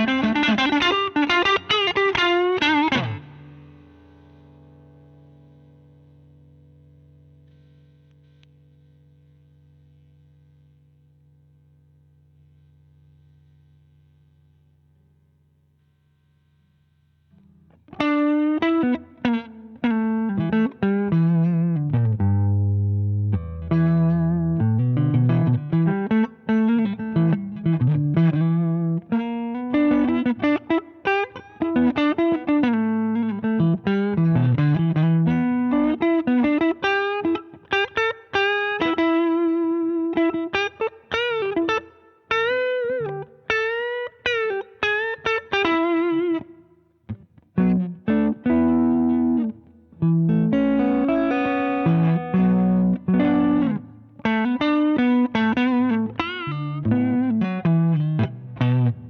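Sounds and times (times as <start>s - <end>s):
overdriven electric guitar lead: 0.0s - 10.1s, 17.4s - 59.0s.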